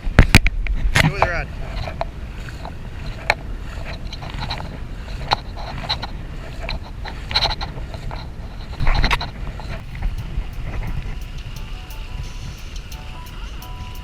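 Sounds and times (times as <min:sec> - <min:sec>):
wind on microphone: 0:00.0 - 0:14.0
paddle splashing water: 0:00.1 - 0:14.0.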